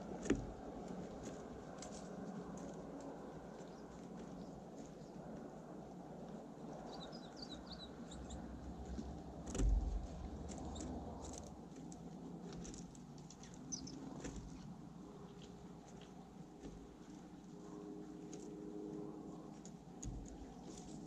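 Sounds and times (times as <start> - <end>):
small birds chirping: 3.0 - 18.5, 19.5 - 21.0.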